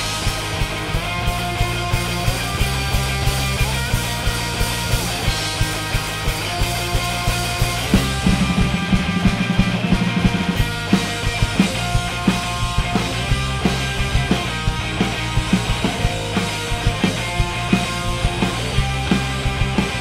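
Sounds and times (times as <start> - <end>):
drum kit beat: 0.0 - 20.0
electric bass: 0.0 - 20.0
electric guitar: 0.0 - 20.0.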